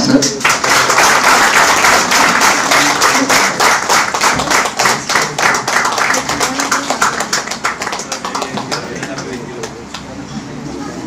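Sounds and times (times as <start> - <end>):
audience applauding: 0.3 - 10.1.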